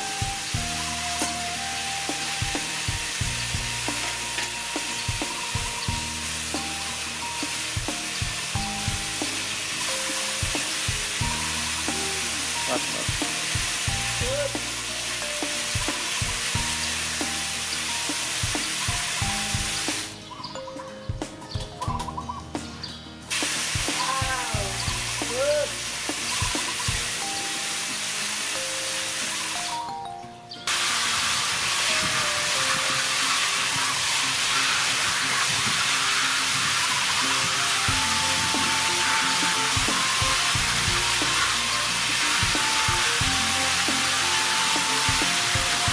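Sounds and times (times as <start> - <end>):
water spray hissing into basin: 0.0 - 20.2, 23.3 - 30.0, 30.7 - 45.9
background music: 0.0 - 45.9.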